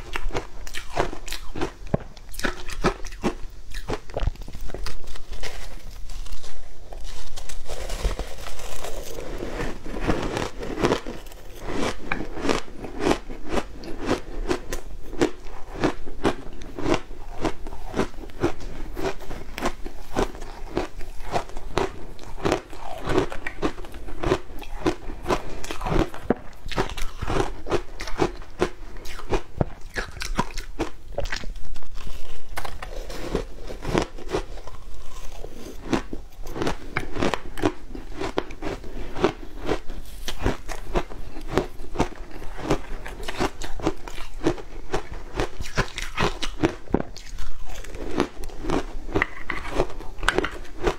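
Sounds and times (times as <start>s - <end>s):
crunching shaved ice: 0.0s - 50.9s.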